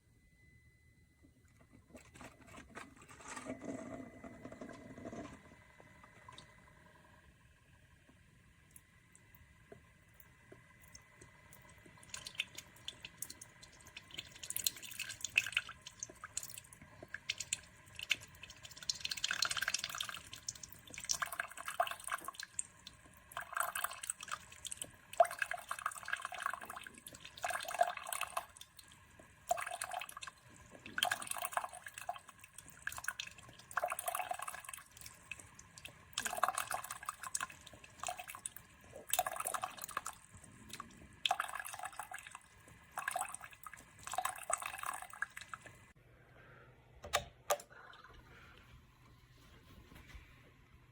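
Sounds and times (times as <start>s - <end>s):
faint steady tone: 0.0s - 46.8s
coffee maker water sputtering: 1.5s - 46.0s.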